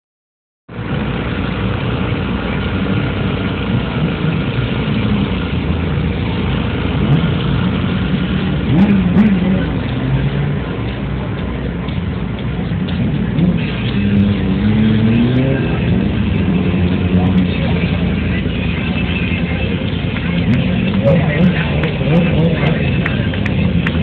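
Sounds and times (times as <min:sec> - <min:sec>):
motorcycle engines revving: 0:00.7 - 0:24.0.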